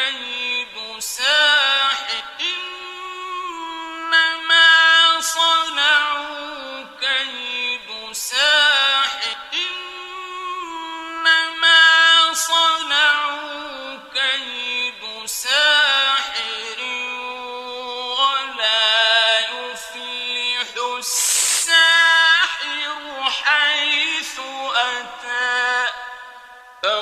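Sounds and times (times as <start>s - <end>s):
man chanting melodically: 0.0s - 27.0s.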